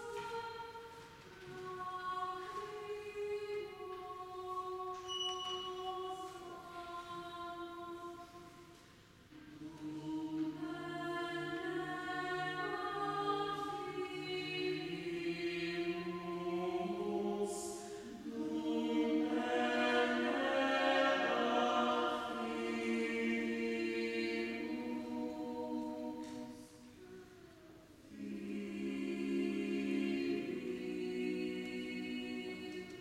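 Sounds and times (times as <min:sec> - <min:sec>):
choir singing a cappella: 0:00.0 - 0:33.0.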